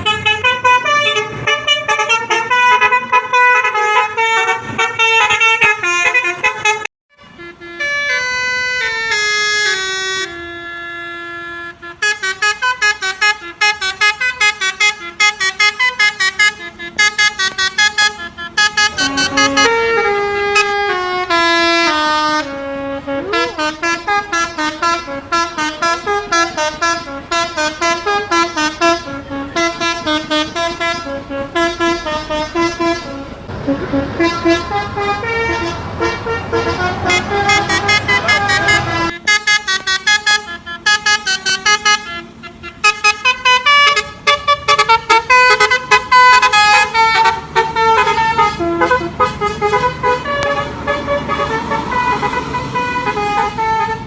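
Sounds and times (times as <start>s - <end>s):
musical bus horn playing tunes: 0.0s - 54.0s.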